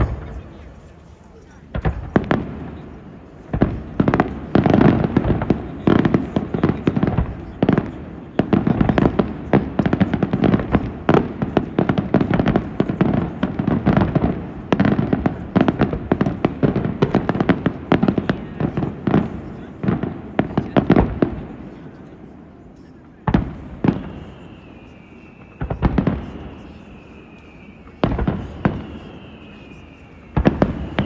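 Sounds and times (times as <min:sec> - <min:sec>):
fireworks bangs: 0:00.0 - 0:31.0.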